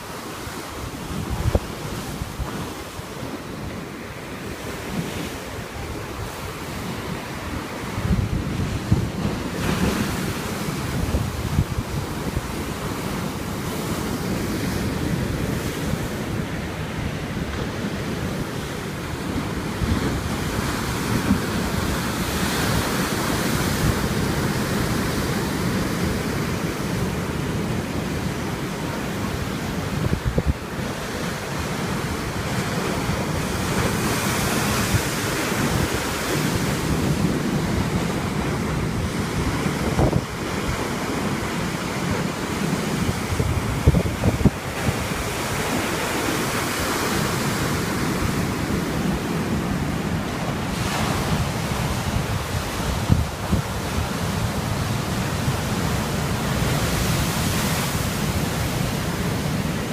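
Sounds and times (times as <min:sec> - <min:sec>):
sea waves washing ashore: 0:00.0 - 0:59.9
wind buffeting microphone: 0:00.5 - 0:59.9.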